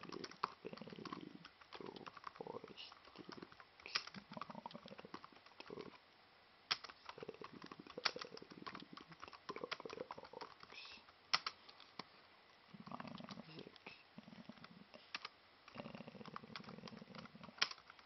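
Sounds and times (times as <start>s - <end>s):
keyboard typing: 0.0s - 6.0s, 6.7s - 12.1s, 12.8s - 18.0s.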